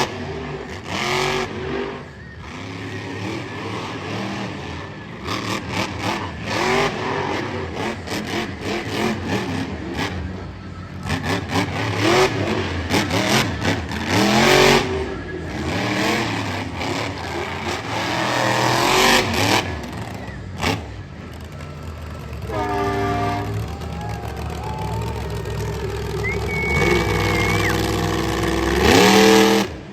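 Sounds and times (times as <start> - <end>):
monster truck engine revving: 0.0 - 29.9.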